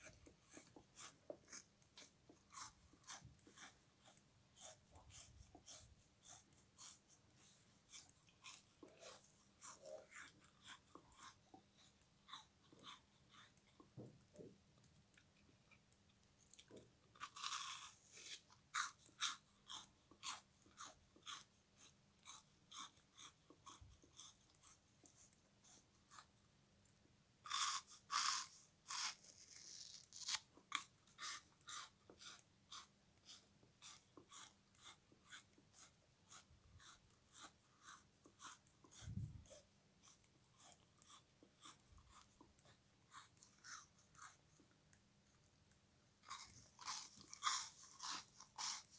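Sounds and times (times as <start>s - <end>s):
crunching and chewing frozen sponge: 0.0s - 14.4s, 16.4s - 26.3s, 27.4s - 44.7s, 46.2s - 48.9s.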